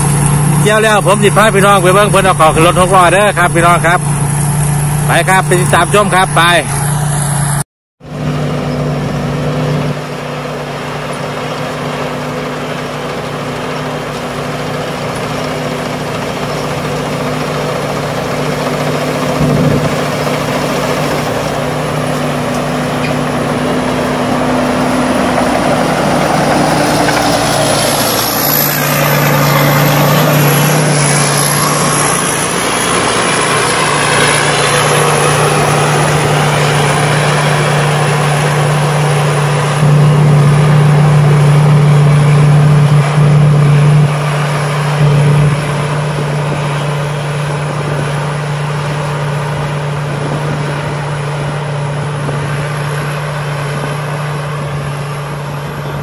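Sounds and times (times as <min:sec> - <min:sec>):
combine harvester engine drone: 0:00.0 - 0:56.0
threshing machinery rushing: 0:08.1 - 0:56.0.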